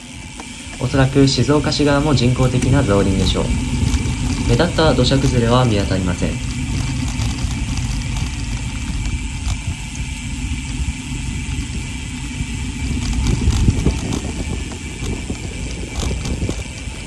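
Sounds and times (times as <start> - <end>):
bicycle tyres rumbling on asphalt: 0.0 - 17.0
wind buffeting microphone: 0.0 - 17.0.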